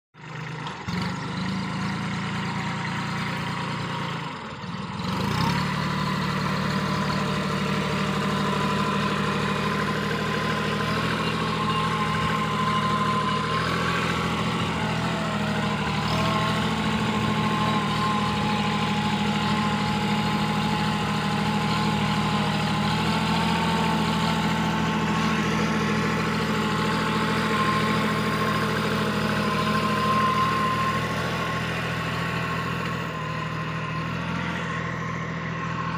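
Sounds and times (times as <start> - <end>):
tractor diesel engine under load: 0.2 - 35.9.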